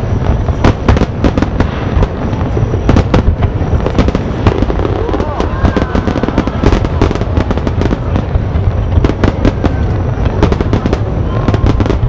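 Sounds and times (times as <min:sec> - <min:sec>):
deep rumble: 0:00.0 - 0:12.0
fireworks bangs and crackle: 0:00.0 - 0:12.0.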